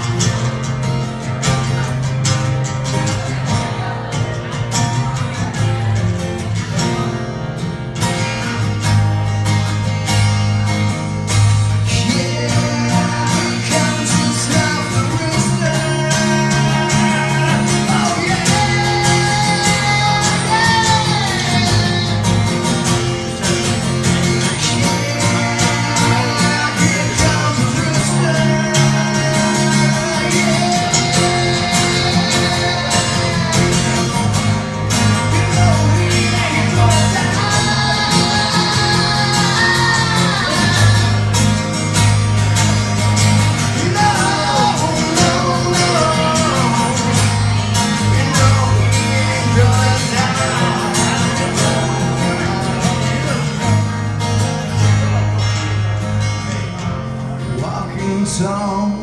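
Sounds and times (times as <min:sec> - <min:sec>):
rock guitars playing: 0:00.0 - 0:59.0
steady bass: 0:00.0 - 0:59.0.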